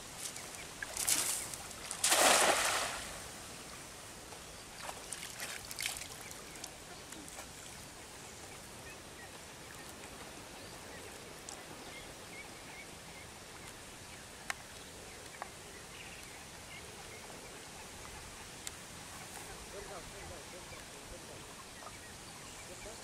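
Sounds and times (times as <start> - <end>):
rural background noise: 0.0 - 23.0.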